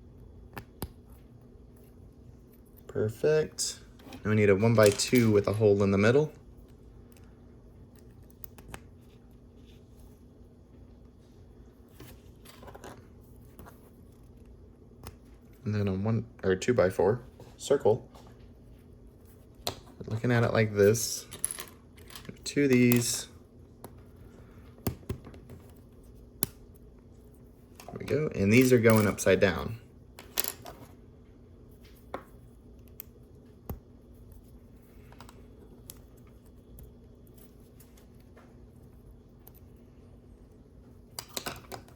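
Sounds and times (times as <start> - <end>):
faint room hum: 0.0 - 41.9.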